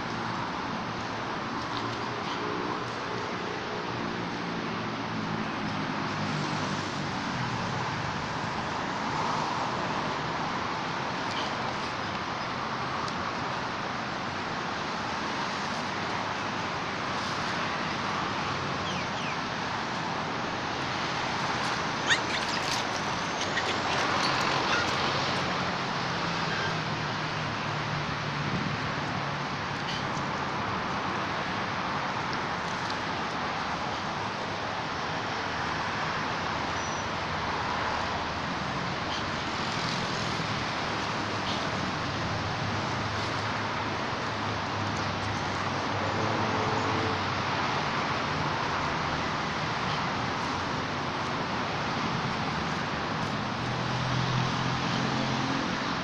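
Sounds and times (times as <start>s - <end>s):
road traffic rush: 0.0s - 56.0s.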